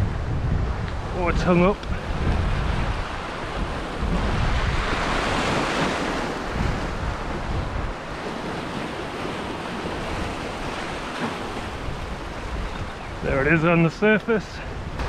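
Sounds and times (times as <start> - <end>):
wind buffeting microphone: 0.0 - 13.9, 14.6 - 15.0
surf washing on rocky shore: 0.0 - 15.0.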